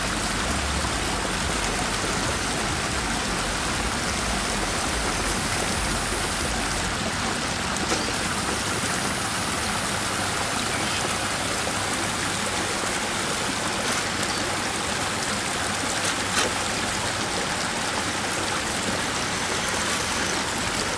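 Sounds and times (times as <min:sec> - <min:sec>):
stream flowing over rocks: 0:00.0 - 0:20.9.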